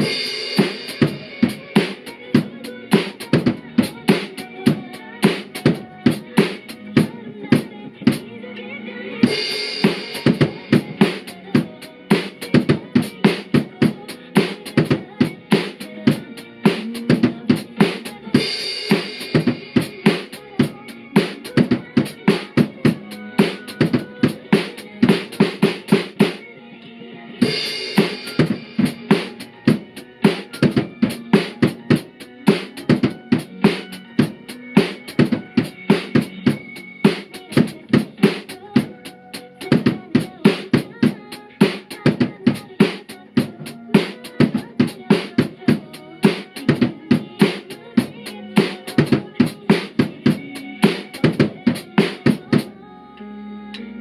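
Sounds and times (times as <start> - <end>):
drum kit playing a beat: 0.0 - 8.3, 9.2 - 26.5, 27.4 - 52.7
pop song backing track: 0.0 - 54.0.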